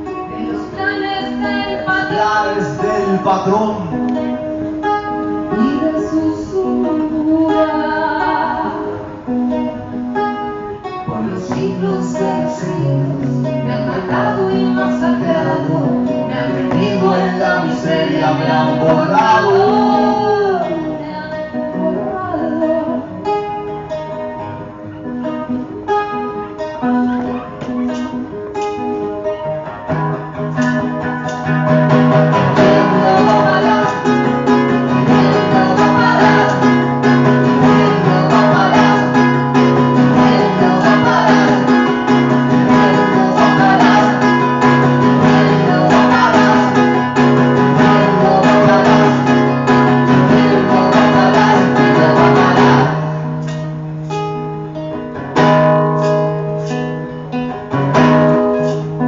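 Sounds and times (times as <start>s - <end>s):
guitar picking and strumming: 0.0s - 59.0s.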